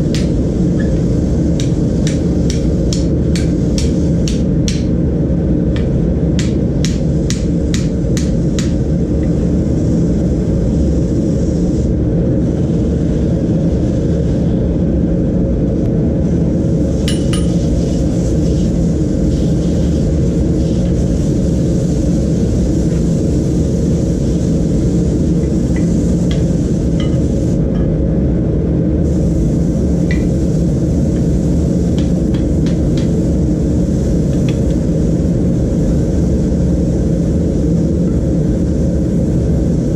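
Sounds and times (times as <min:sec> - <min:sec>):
gas forge burner roar: 0:00.0 - 0:39.9.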